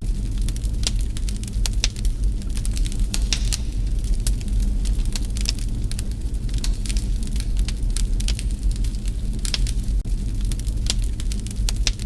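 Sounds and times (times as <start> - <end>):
low rumble: 0.0 - 12.0
wood fire crackling and popping: 0.0 - 12.0.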